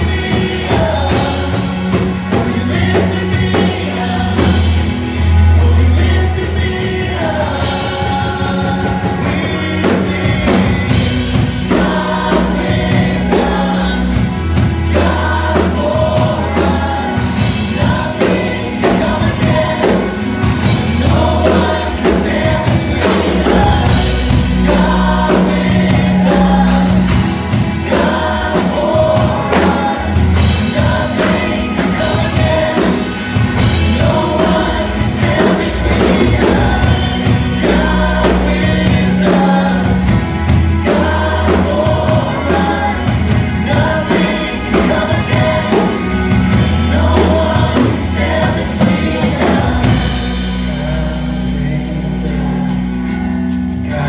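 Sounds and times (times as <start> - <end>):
women and children's choir singing: 0.0 - 53.0
instrumental accompaniment: 0.0 - 54.0.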